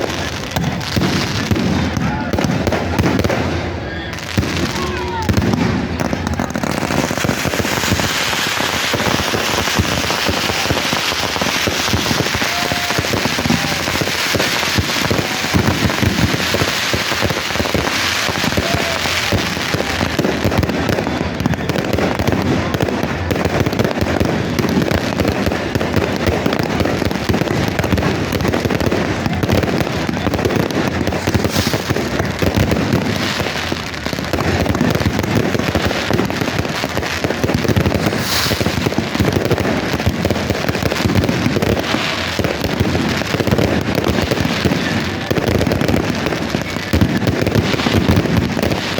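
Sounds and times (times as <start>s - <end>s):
firecrackers crackling and popping: 0.0s - 48.9s.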